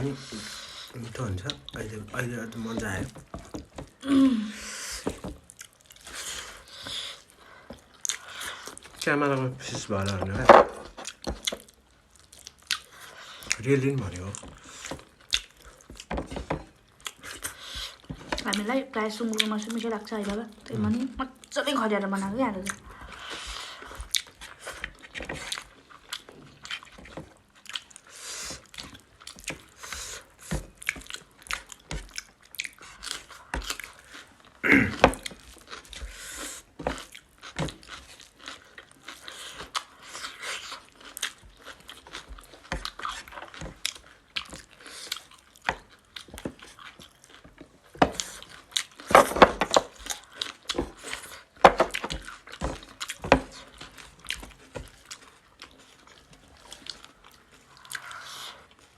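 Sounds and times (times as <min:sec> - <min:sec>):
wet chewing and crunching: 0:00.0 - 0:58.9.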